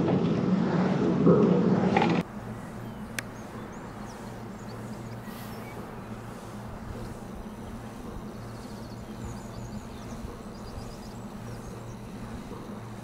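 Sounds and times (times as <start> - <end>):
wind turbine humming: 0.0 - 13.0
small birds chirping: 2.2 - 13.0.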